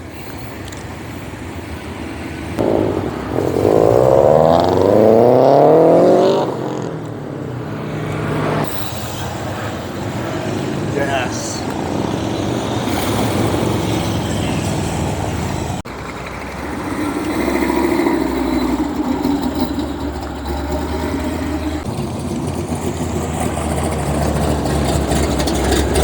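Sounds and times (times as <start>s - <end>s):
car engines idling: 0.0s - 26.0s.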